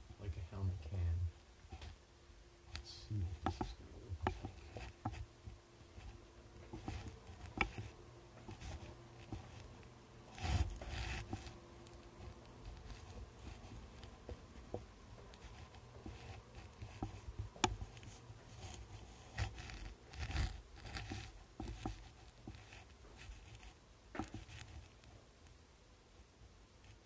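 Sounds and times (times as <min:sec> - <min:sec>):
soft footsteps: 0:02.6 - 0:25.3.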